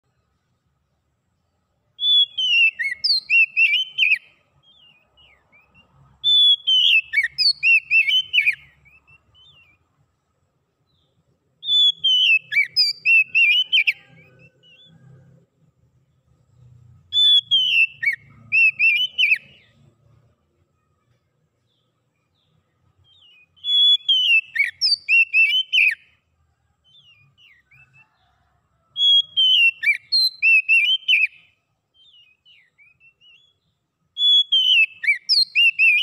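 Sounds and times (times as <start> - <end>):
songbird singing whistled phrases: 1.9 - 10.0, 10.8 - 15.4, 17.0 - 20.0, 21.1 - 36.0.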